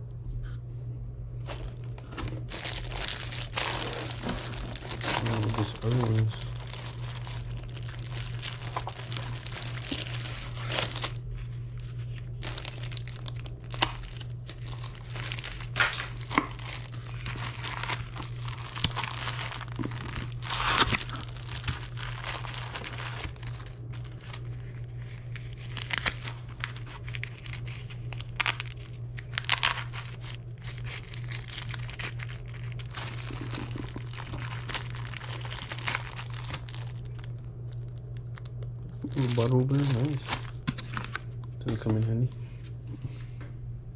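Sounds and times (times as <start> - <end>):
steady low hum: 0.0 - 43.9
plastic bags crinkling: 1.4 - 41.9.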